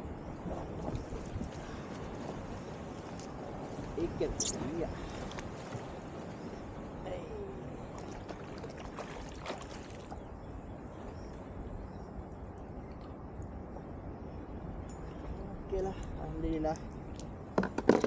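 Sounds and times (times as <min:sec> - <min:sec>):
water noise around kayak: 0:00.0 - 0:18.0.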